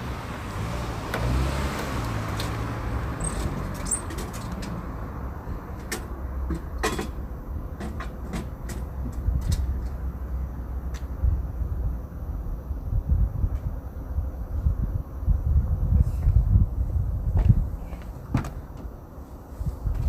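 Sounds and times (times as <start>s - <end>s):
low vehicle rumble: 0.0s - 20.0s.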